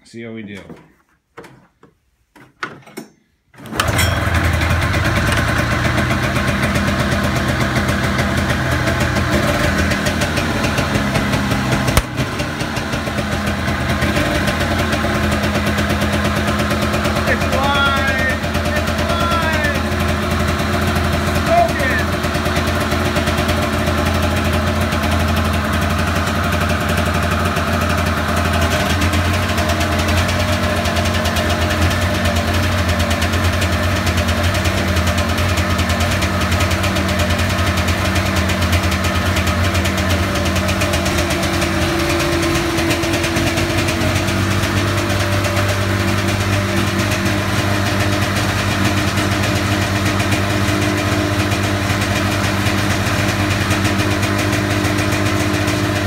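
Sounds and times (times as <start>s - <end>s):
two-stroke engine idling roughly: 3.7s - 56.0s.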